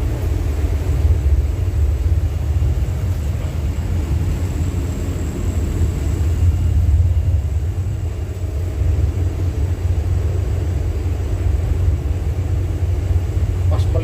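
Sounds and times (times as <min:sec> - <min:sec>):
low rumble aboard ship: 0:00.0 - 0:14.0.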